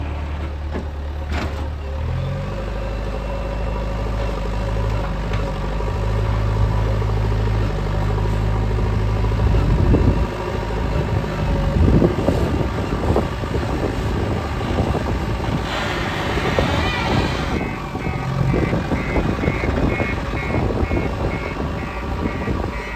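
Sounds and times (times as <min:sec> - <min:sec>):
diesel engine revving: 0:00.0 - 0:22.9.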